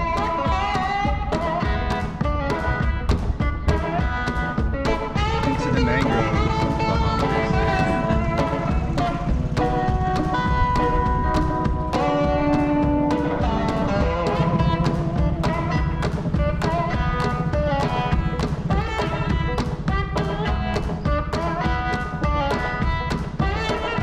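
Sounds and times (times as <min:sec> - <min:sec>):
bass: 0:00.0 - 0:24.0
drum beat: 0:00.0 - 0:24.0
electric guitar: 0:00.0 - 0:24.0.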